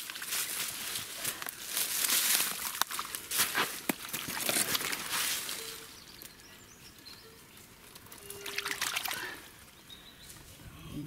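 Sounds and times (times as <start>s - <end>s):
rustling in dry leaves and twigs: 0.0s - 10.7s.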